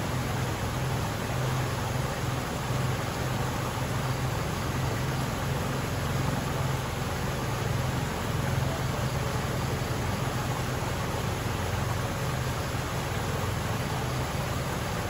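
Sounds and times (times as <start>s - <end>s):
flooded creek rushing over rapid: 0.0s - 15.0s.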